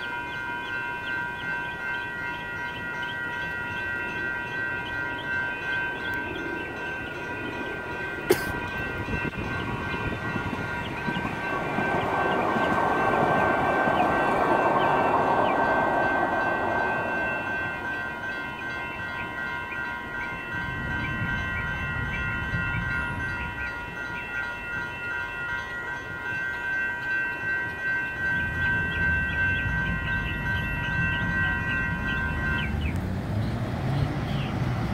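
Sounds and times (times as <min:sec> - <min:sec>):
railroad crossing bells ringing: 0:00.0 - 0:34.9
road traffic rumble: 0:00.0 - 0:34.9.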